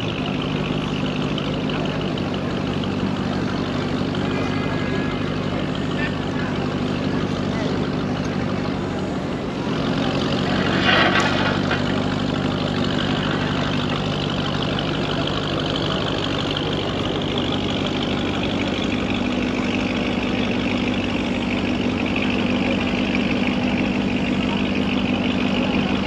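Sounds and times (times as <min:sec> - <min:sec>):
street traffic: 0:00.0 - 0:26.0
vehicle engine idling: 0:00.0 - 0:26.0.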